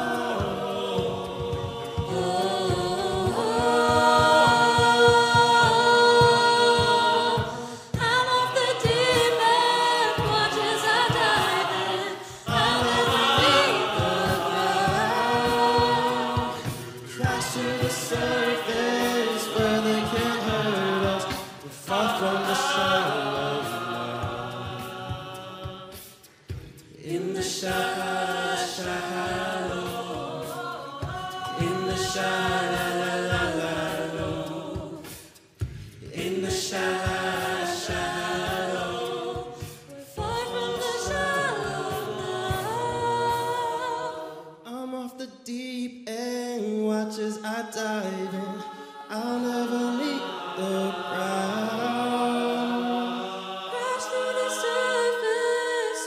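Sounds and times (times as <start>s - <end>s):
vocal group singing in harmony: 0.0s - 56.0s.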